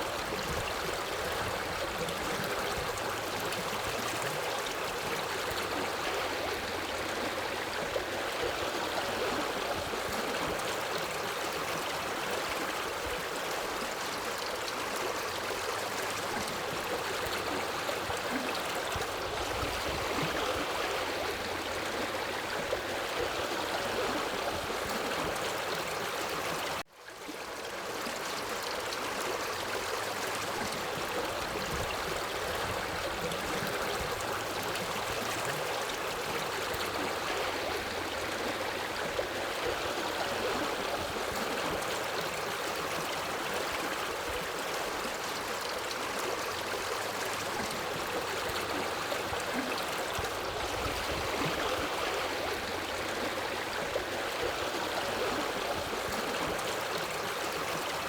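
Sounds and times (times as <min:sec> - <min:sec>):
river water rushing: 0:00.0 - 0:26.8, 0:27.4 - 0:58.0.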